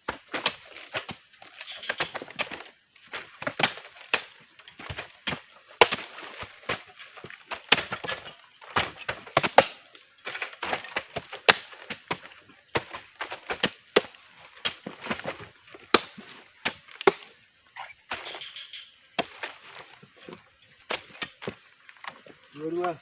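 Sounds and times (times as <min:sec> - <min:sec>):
fruit bunches knocking and thudding: 0:00.0 - 0:23.0.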